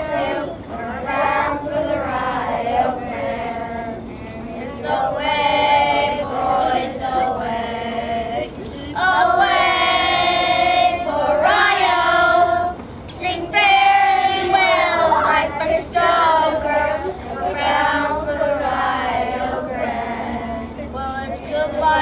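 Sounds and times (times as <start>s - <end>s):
choir of high voices singing: 0.0s - 4.0s, 4.7s - 22.0s.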